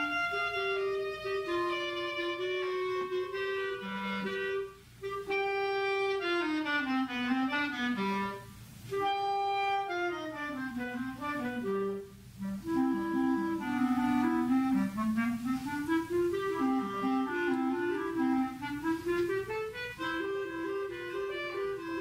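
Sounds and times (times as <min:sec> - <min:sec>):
clarinet melody: 0:00.0 - 0:22.0.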